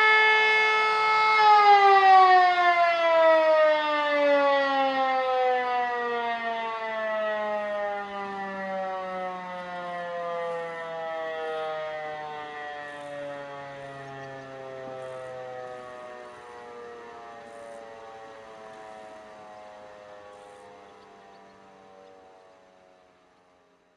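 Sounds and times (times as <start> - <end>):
electric siren winding down: 0.0 - 23.5.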